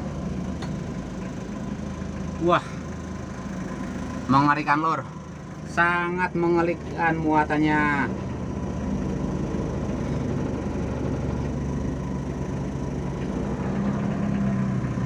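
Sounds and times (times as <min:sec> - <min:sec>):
road noise: 0:00.0 - 0:15.0
vehicle engine humming: 0:00.0 - 0:15.0.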